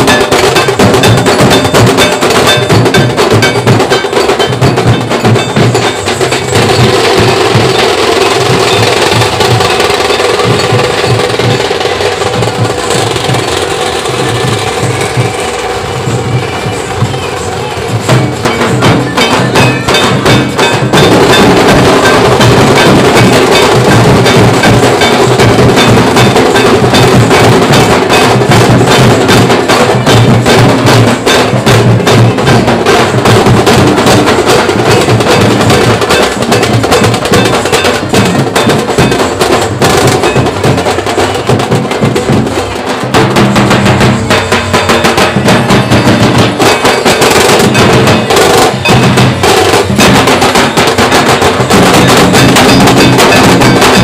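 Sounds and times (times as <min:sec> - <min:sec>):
drums beaten in fast rhythm: 0:00.0 - 0:54.0.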